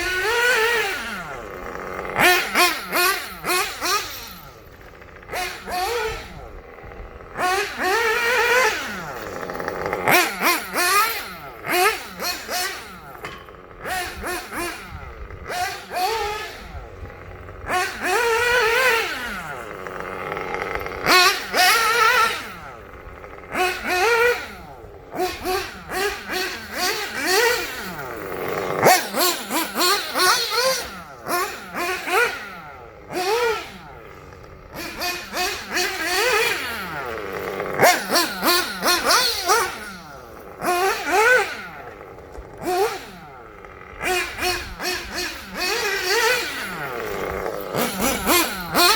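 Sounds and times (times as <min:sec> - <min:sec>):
nitro buggy engine revving: 0:00.0 - 0:48.9.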